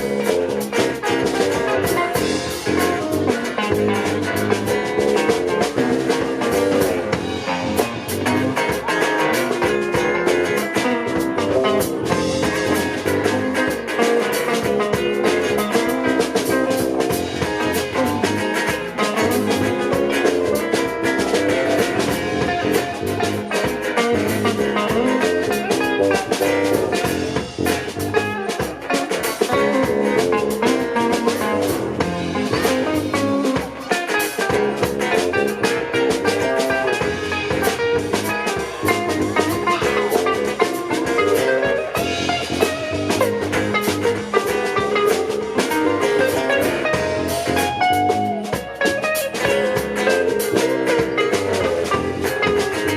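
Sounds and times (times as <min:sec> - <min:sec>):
drum kit: 0:00.0 - 0:52.9
guitar: 0:00.0 - 0:52.9.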